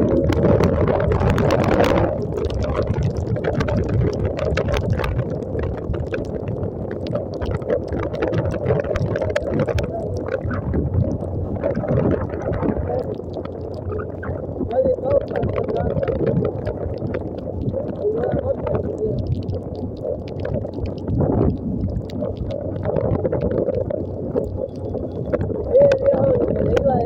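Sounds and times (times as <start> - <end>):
small ticks: 0.0 - 27.0
tyres through water: 0.0 - 27.0
wind on microphone: 0.0 - 27.0.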